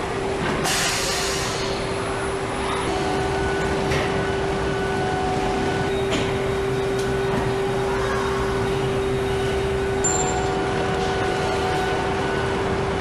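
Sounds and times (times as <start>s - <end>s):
steady machinery hum: 0.0s - 13.0s.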